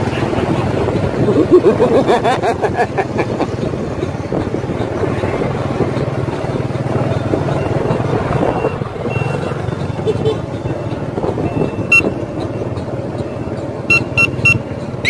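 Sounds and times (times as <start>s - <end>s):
engine hum: 0.0s - 15.0s
traffic: 0.0s - 15.0s.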